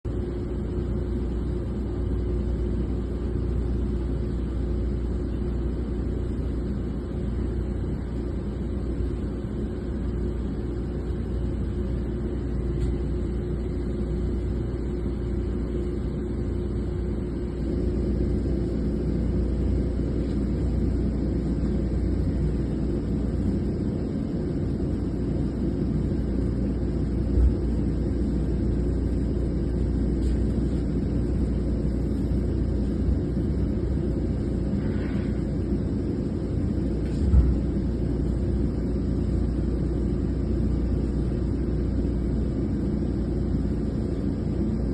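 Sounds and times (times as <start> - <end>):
drilling rig machinery rumble: 4.2 - 42.1.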